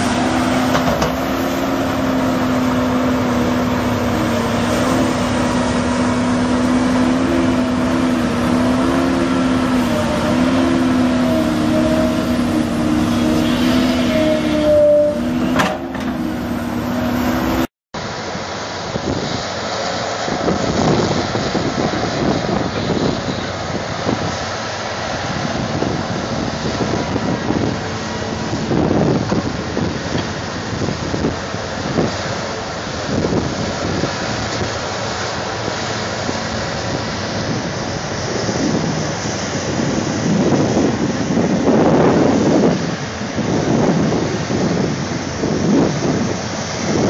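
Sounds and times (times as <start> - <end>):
wind buffeting microphone: 0.0 - 17.7, 18.8 - 47.0
excavator engine whine: 0.0 - 47.0
excavators rumbling: 0.0 - 47.0.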